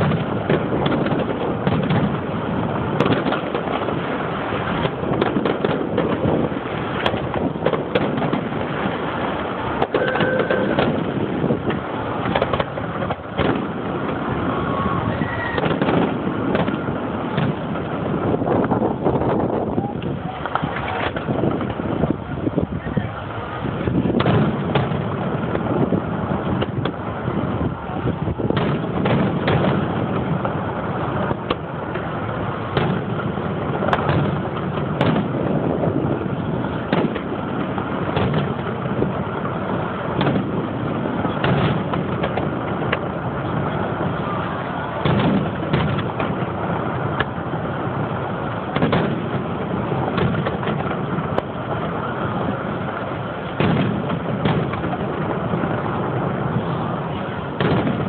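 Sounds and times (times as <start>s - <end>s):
firework shells bursting: 0.0s - 22.2s, 23.8s - 58.0s
continuous rumbling: 0.0s - 58.0s.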